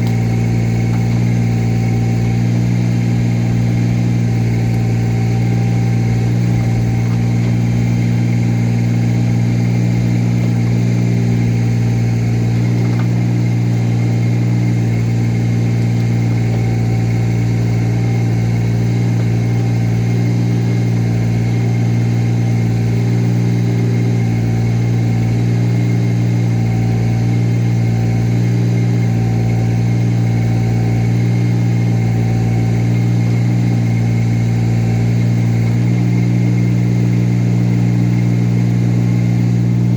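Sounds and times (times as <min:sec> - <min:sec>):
earth-moving machine engine running: 0:00.0 - 0:39.9.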